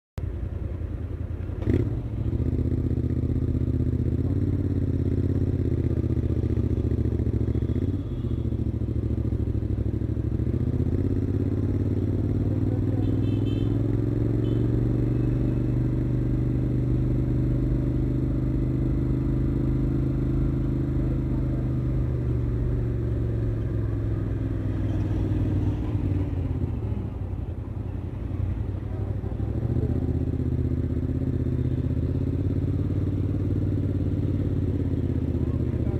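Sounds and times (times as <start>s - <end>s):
motorcycle engine running: 0.2s - 35.9s.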